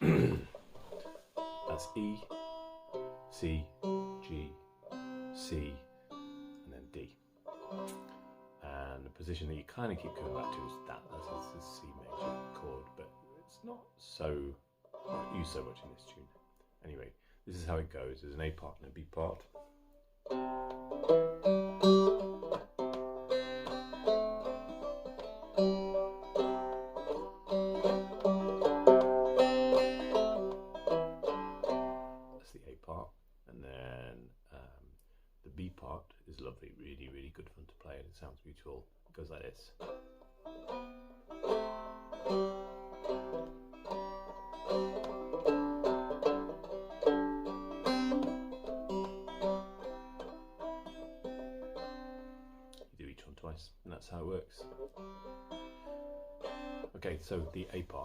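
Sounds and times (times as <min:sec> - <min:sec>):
banjo playing jaunty melody: 0:00.6 - 0:16.4, 0:18.6 - 0:32.4, 0:39.7 - 0:52.9, 0:54.0 - 0:58.0.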